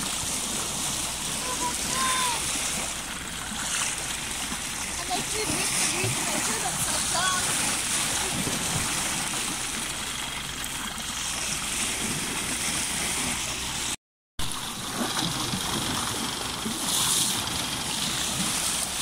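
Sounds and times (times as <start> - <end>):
water rushing along a hull: 0.0 - 19.0.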